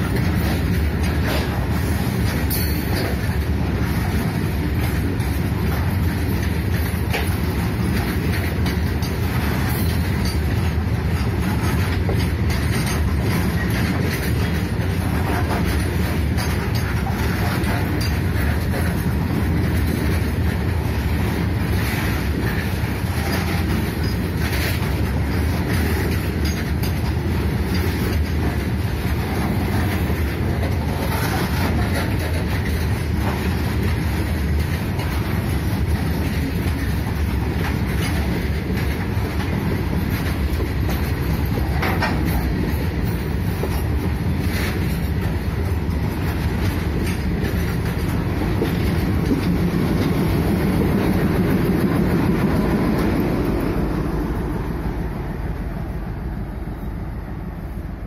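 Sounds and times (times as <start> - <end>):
wheels clattering over rail joints: 0.0 - 56.8
steel wheels rumbling on rails: 0.0 - 58.0.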